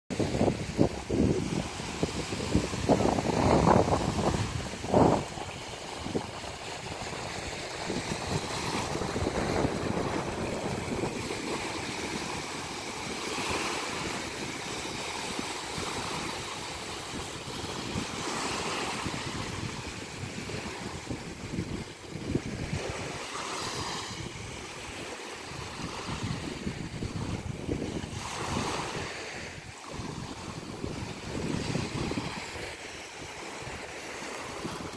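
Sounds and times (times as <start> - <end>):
sea waves breaking on beach: 0.1 - 34.9
wind buffeting microphone: 0.1 - 34.9.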